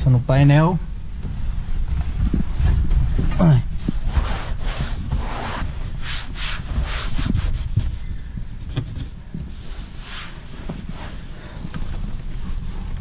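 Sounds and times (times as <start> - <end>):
cloth rubbing on dashboard: 1.3 - 13.0.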